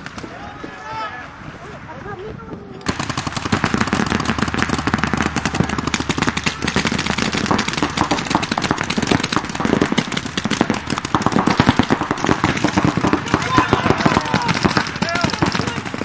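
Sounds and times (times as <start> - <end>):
paintball markers firing: 2.8 - 16.0.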